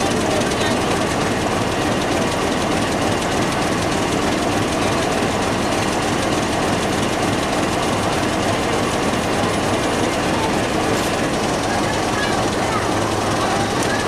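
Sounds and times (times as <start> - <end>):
crowd chatter: 0.0 - 14.0
diesel locomotive running: 0.0 - 14.0.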